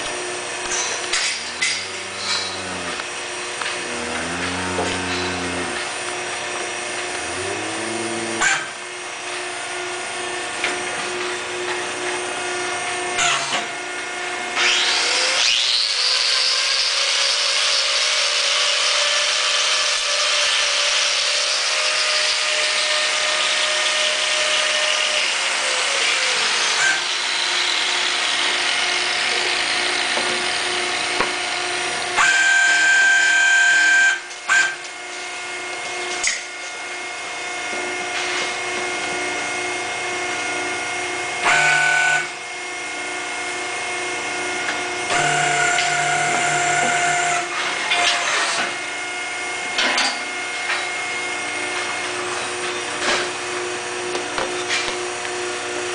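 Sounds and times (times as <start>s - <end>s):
electric power tool whining: 0.0s - 55.9s.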